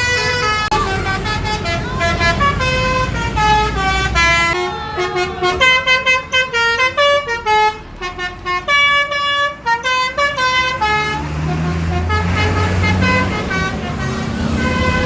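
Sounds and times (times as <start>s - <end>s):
bus multi-tone horn tune: 0.0s - 15.0s
low engine rumble: 0.0s - 15.0s.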